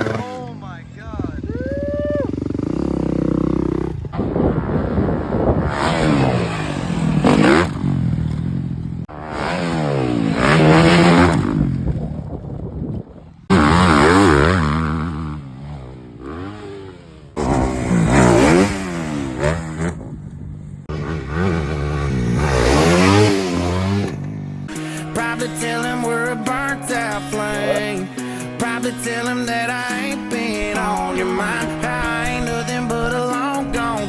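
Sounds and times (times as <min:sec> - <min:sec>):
dirt bike engines revving: 0:00.0 - 0:12.5, 0:13.3 - 0:34.0.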